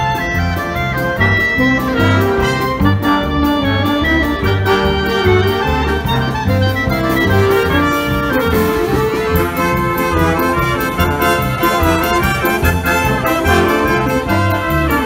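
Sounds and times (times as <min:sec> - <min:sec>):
bass beat: 0:00.0 - 0:15.0
clarinet solo: 0:00.0 - 0:15.0
wind band playing: 0:00.0 - 0:15.0.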